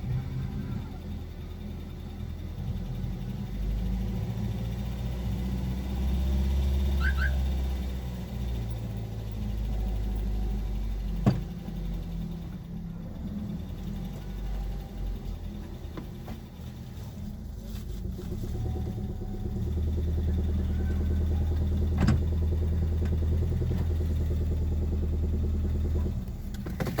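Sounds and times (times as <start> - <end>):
car engine knocking: 0.0 - 27.0.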